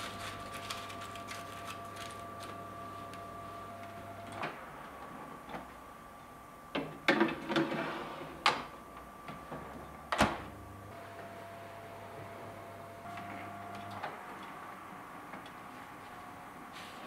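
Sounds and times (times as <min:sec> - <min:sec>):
oven humming: 0:00.0 - 0:17.0.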